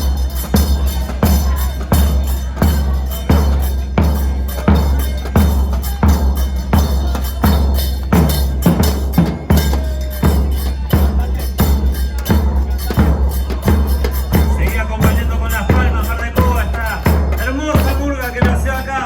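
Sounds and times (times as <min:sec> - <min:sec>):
heavy drum beat: 0:00.0 - 0:19.0.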